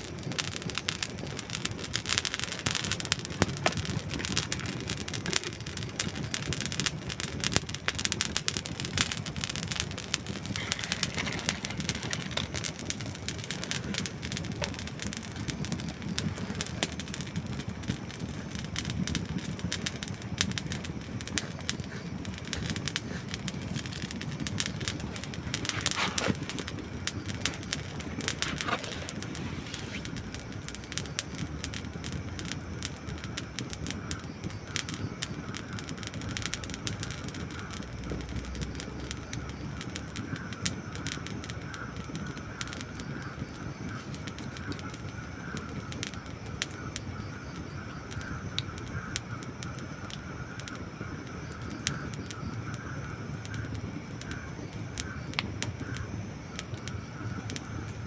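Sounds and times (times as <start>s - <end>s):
flames rushing: 0.0s - 58.0s
logs crackling and popping: 0.0s - 58.0s.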